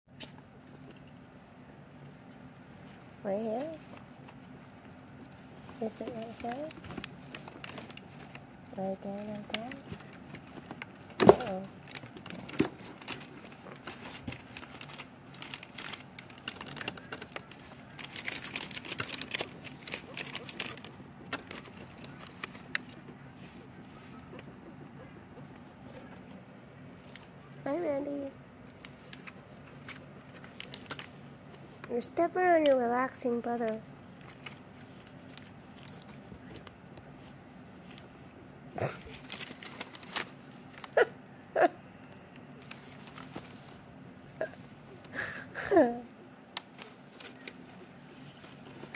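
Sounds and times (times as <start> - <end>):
paper crinkling and clicks: 0.1 - 27.6, 28.6 - 32.8, 33.6 - 38.2, 39.0 - 41.0, 42.3 - 45.4, 46.2 - 48.9.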